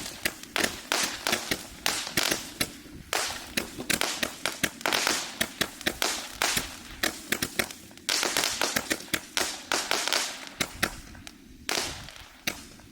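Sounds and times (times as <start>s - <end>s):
firework cake sharp pops: 0.0s - 12.9s
hissing crackle: 0.0s - 12.9s.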